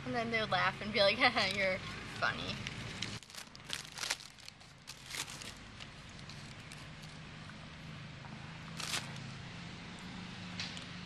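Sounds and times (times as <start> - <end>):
faint low background hum: 0.0 - 11.0.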